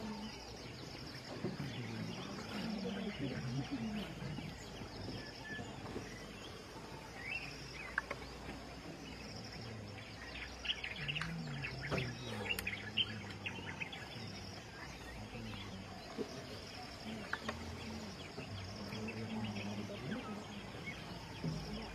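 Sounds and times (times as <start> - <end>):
birds chirping: 0.0 - 21.9
faint low murmur: 0.0 - 21.9
pulsing insect drone: 0.0 - 21.9.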